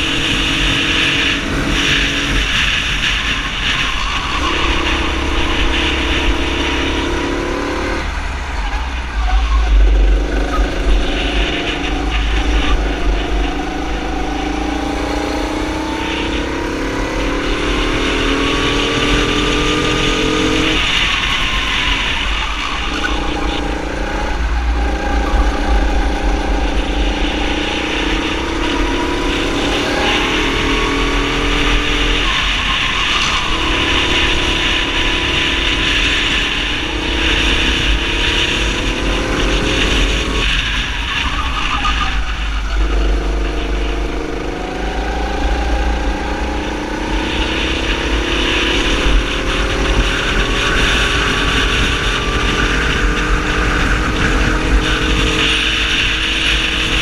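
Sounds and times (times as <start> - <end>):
kart engine revving: 0.0 - 57.0
wind rumbling on microphone: 0.0 - 57.0.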